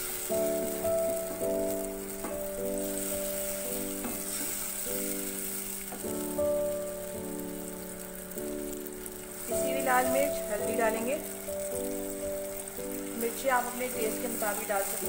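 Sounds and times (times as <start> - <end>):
background music of held chords: 0.0 - 15.0
paste sizzling in hot oil: 0.0 - 15.0.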